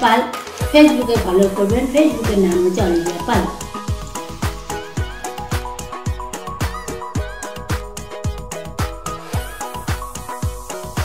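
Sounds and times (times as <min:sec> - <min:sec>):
dance music: 0:00.0 - 0:11.0
deep kick drum beat: 0:00.6 - 0:11.0.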